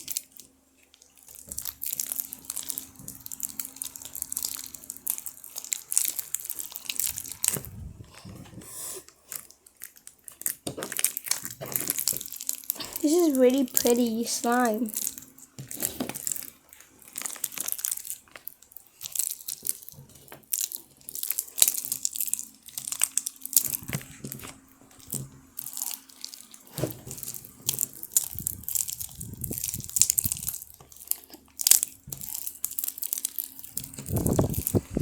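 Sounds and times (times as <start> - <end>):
slime crackling and popping: 0.0 - 7.8, 9.3 - 35.0.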